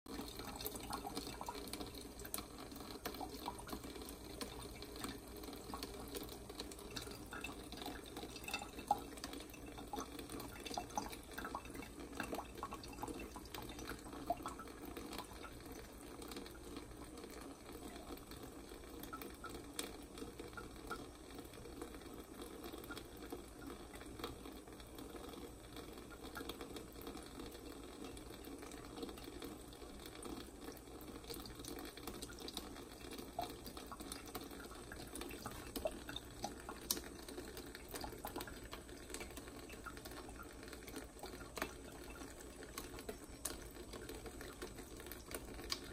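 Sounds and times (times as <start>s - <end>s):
cat lapping water: 0.1s - 45.9s
faucet running into sink: 0.1s - 45.9s.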